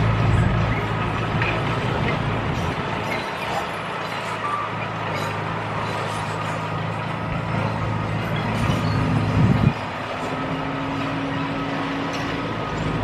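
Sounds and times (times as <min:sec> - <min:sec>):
diesel engine of heavy machine: 0:00.0 - 0:13.0.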